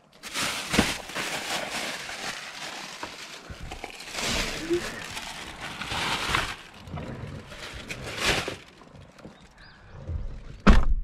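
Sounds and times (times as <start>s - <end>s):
plastic bag rustling: 0.0s - 9.8s.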